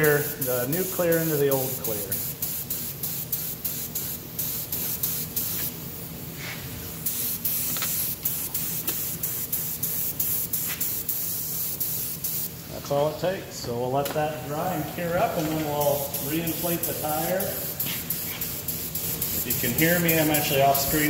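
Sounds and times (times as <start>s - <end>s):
spray gun hissing: 0.0s - 12.7s, 14.5s - 21.0s.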